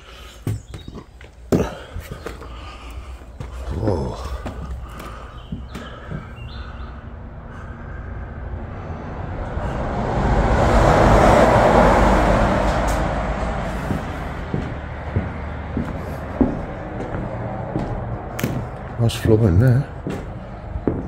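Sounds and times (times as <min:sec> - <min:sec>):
passing vehicle rumbling: 0:02.5 - 0:21.0.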